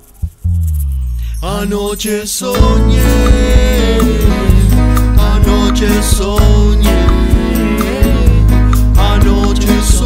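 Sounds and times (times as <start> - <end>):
drum kit: 0.0 - 10.0
electric bass: 0.0 - 10.0
nylon-string guitar: 0.3 - 10.0
bossa nova band playing: 0.4 - 10.0.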